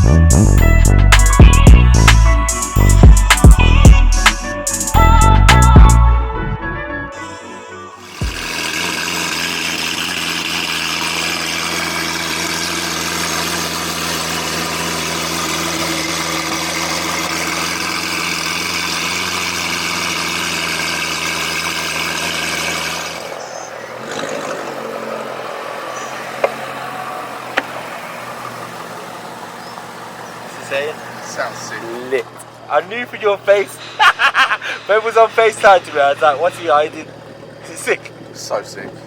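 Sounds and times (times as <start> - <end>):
car engine idling: 0.0 - 6.1, 7.9 - 39.0.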